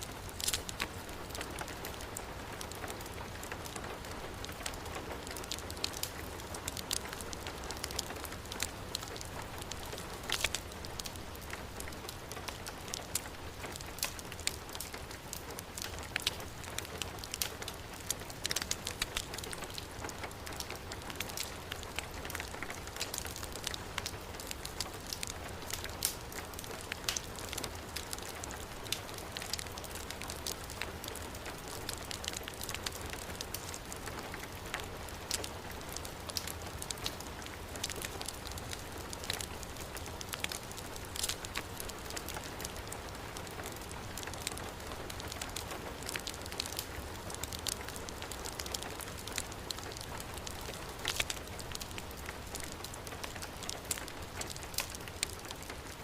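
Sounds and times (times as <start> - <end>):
heavy rain falling: 0.0 - 56.0
wood fire crackling: 0.0 - 56.0.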